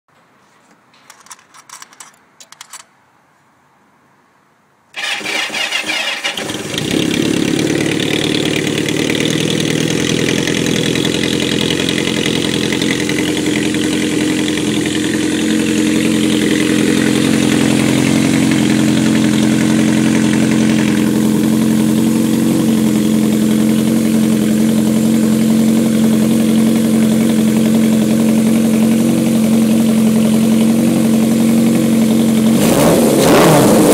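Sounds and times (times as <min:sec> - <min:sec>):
motorcycle engine cranking and starting: 0:00.6 - 0:03.0, 0:05.0 - 0:33.9
motorcycle engine idling: 0:05.0 - 0:32.6.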